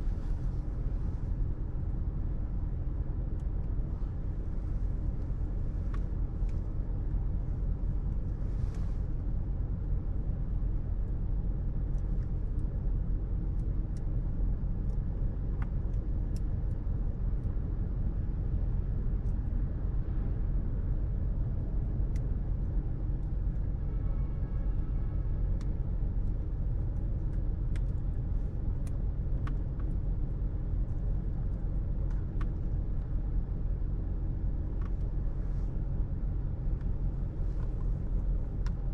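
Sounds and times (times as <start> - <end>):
low rumble of road traffic: 0.0 - 38.9.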